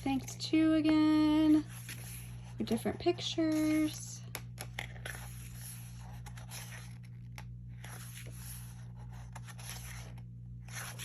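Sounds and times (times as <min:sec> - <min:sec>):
pages rustling and turning: 0:01.5 - 0:11.0.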